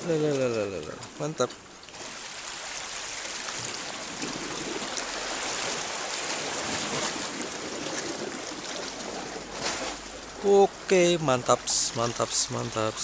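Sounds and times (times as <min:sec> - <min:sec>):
small waves lapping on rocks: 0:00.0 - 0:13.0.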